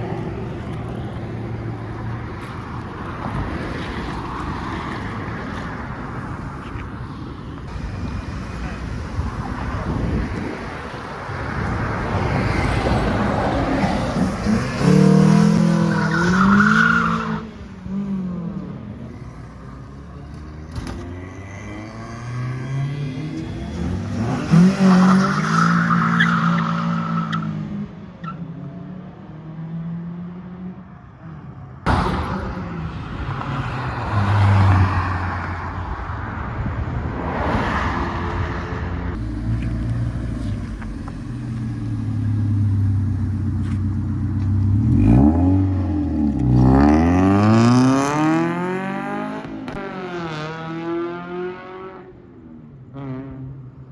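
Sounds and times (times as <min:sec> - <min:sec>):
car engines revving: 0:07.6 - 0:53.8.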